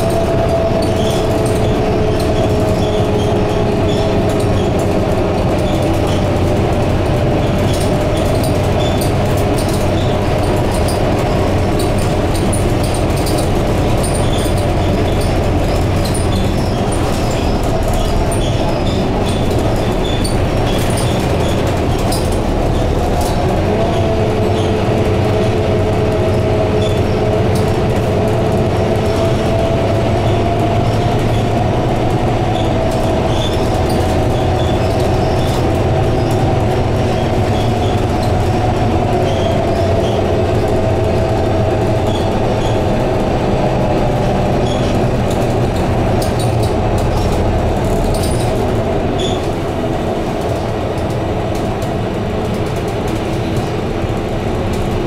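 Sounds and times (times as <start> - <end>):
body rattles and clicks: 0.0 - 55.0
bus engine whine: 0.0 - 55.0
road rumble: 0.0 - 55.0.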